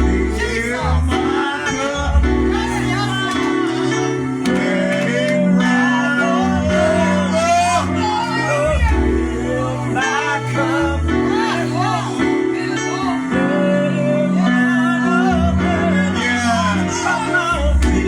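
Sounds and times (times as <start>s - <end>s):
choir singing over chords: 0.0s - 18.0s.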